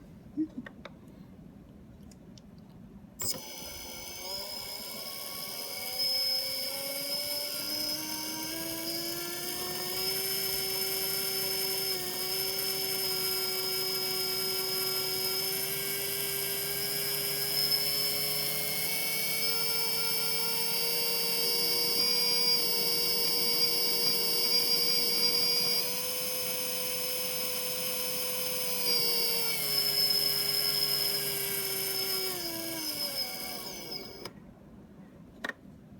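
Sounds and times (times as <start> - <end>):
machine whine with bad bearings: 3.2 - 34.3.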